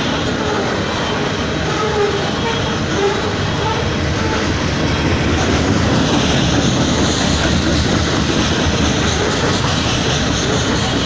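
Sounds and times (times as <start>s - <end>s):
rumble of steel wheels on rail: 0.0s - 11.0s.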